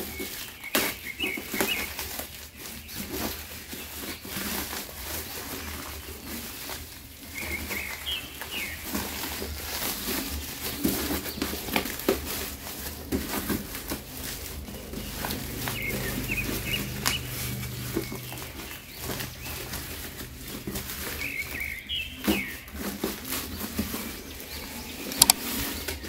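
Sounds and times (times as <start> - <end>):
plastic bag and bubble wrap crinkling: 0.0 - 26.0.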